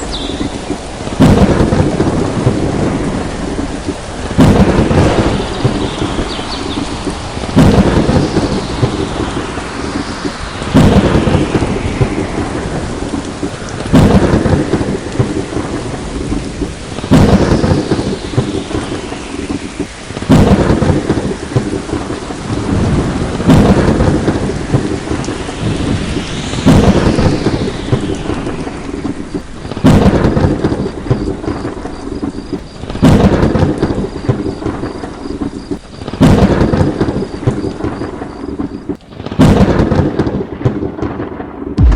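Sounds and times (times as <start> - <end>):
heavy rain: 0.0 - 41.9
thunderclaps rumbling: 0.0 - 41.9.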